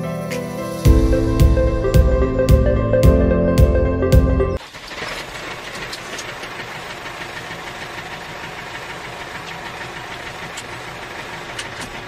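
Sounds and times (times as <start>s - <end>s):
tractor engine idling: 0.9s - 12.0s.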